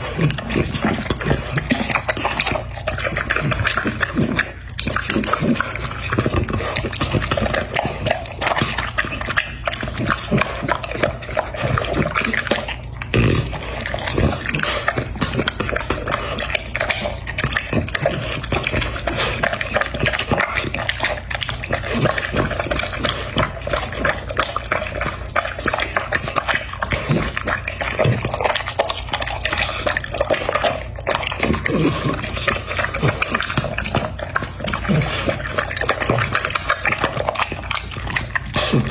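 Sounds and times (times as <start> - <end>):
dog chewing wet food: 0.0 - 38.9
dog slurping: 0.0 - 38.9.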